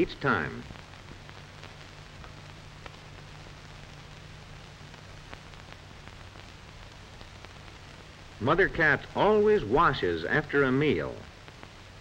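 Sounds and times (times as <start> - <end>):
faint crackles and pops: 0.0 - 12.0
film soundtrack hiss: 0.0 - 12.0.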